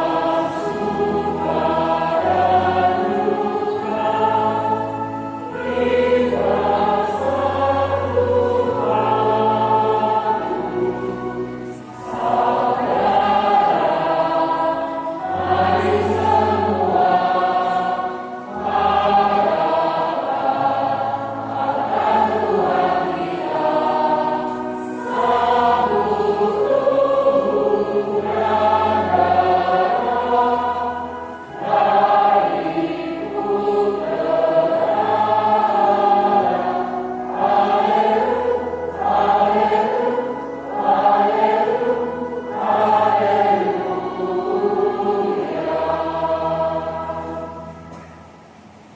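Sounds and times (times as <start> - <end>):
church choir singing a hymn: 0.0 - 48.9.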